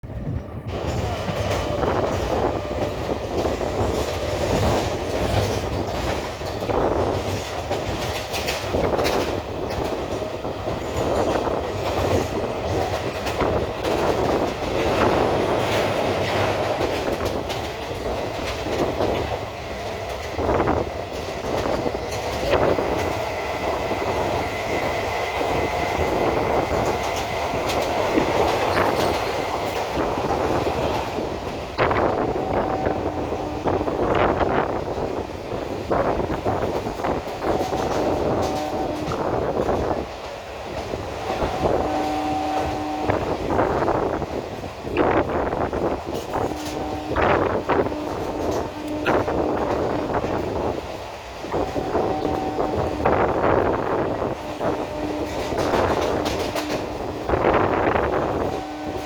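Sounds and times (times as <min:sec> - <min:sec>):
train clacks and knocks: 0:00.0 - 0:59.0
train wheels rumbling on track: 0:00.0 - 0:59.0.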